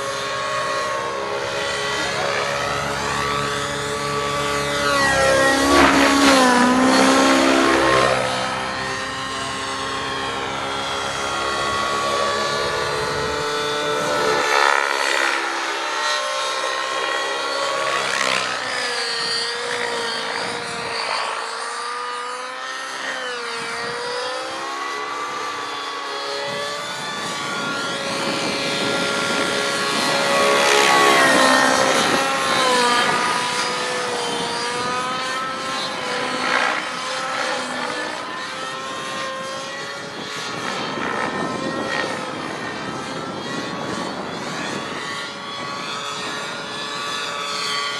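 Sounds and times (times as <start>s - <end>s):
model helicopter rotor whine: 0.0s - 47.9s.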